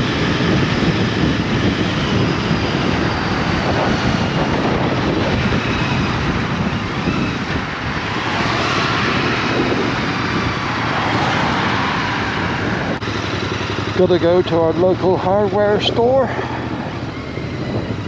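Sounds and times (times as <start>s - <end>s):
motorbike engine running: 0.0s - 18.0s
wind rush over microphone: 0.0s - 18.0s.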